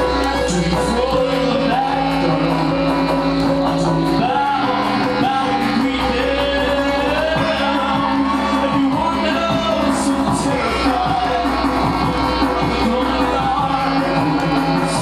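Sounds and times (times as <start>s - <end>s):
electric bass: 0.0s - 15.0s
live rock band playing: 0.0s - 15.0s
person singing: 0.0s - 15.0s.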